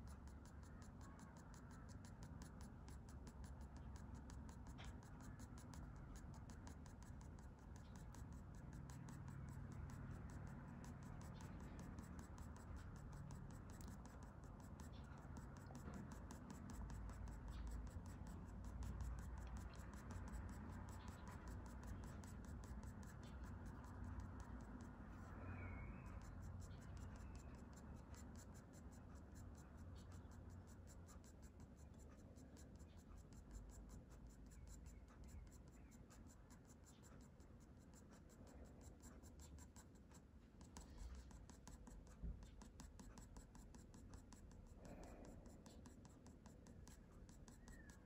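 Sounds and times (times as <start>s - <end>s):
faint low hum: 0.0s - 48.0s
pencil scratching on paper: 0.0s - 48.0s.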